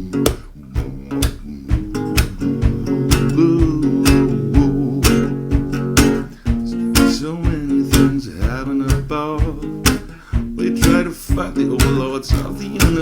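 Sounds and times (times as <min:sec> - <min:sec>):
guitar chords: 0:00.0 - 0:13.0
steady drum beat: 0:00.0 - 0:13.0.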